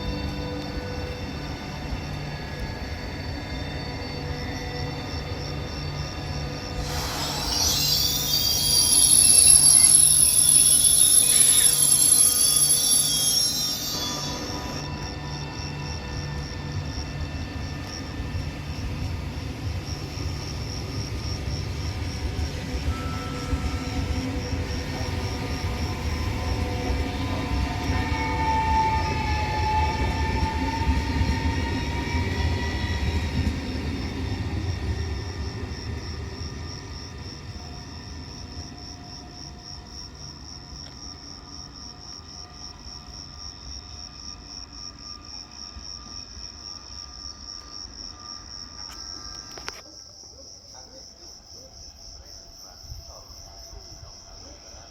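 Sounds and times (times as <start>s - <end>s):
train wheels squealing on rails: 0.0s - 49.8s.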